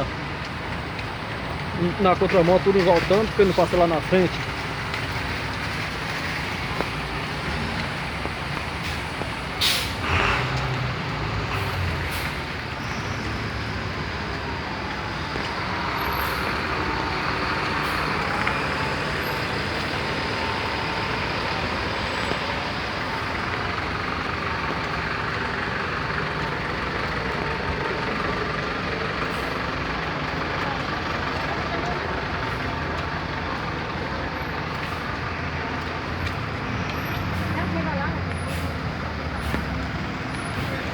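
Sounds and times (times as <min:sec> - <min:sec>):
vehicle engines and road noise: 0:00.0 - 0:40.9.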